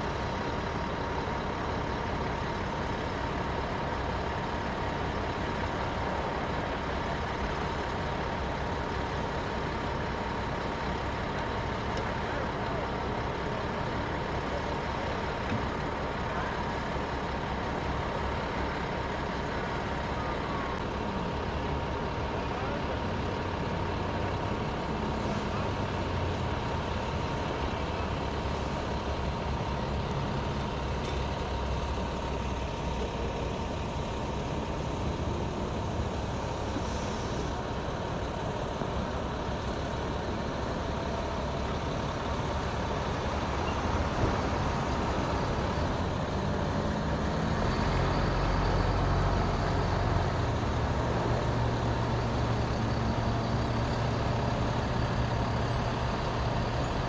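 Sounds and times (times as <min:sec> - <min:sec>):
diesel truck engines rumbling: 0:00.0 - 0:57.0.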